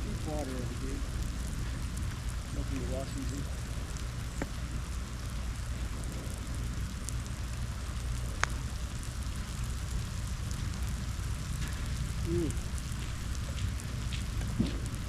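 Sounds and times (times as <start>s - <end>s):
light rain pattering: 0.0s - 15.0s
low rumble: 0.0s - 15.0s.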